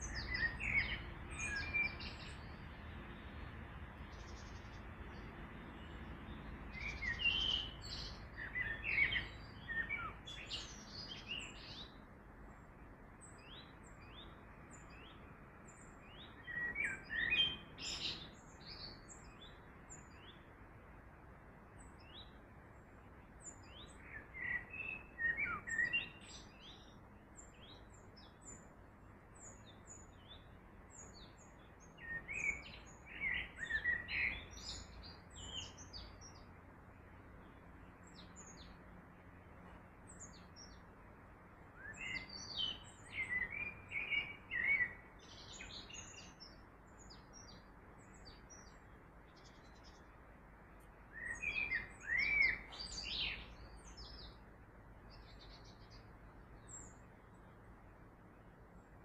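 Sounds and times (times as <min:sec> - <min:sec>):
soft background rush: 0:00.0 - 0:59.0
songbirds singing: 0:00.0 - 0:59.0.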